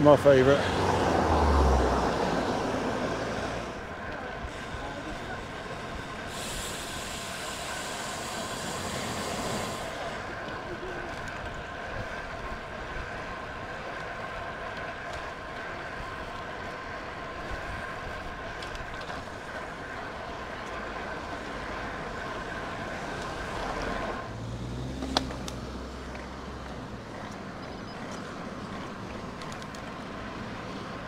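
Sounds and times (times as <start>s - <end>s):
bike tyres on tarmac: 0.0s - 31.0s
vehicle engine humming: 0.0s - 31.0s.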